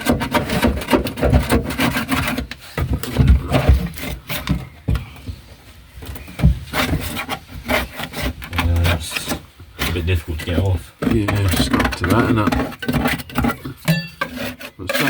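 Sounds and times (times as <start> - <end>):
scraping on metal floor: 0.0 - 15.0.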